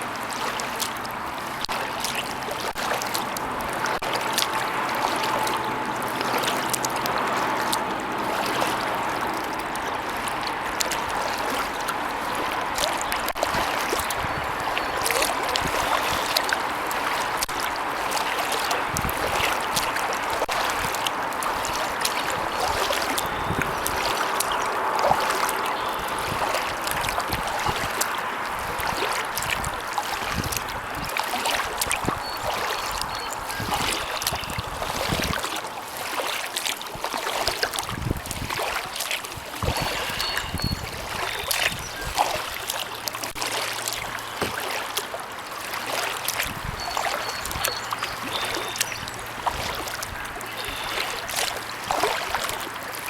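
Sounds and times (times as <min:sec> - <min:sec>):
kayak paddle swishing water: 0:00.0 - 0:53.0
water drips and splashes: 0:00.0 - 0:53.0.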